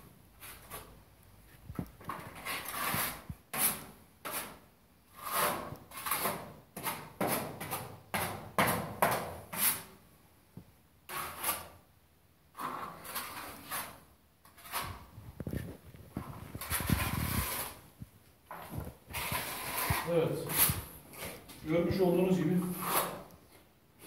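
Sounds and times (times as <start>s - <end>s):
plastering tool scraping plaster: 0.4s - 1.0s, 2.0s - 10.0s, 11.0s - 11.9s, 12.5s - 23.6s.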